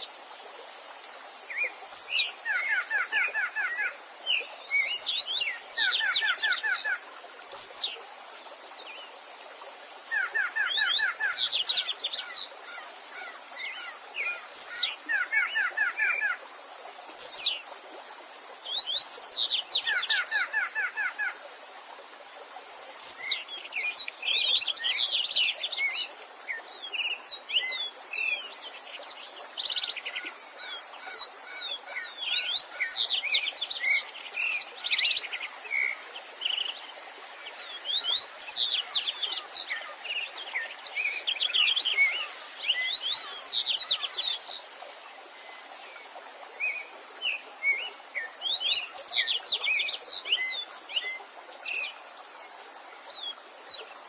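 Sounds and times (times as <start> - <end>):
stream rushing: 0.0 - 54.0
songbirds singing: 1.5 - 16.4, 18.5 - 21.4, 22.8 - 44.6, 45.4 - 54.0.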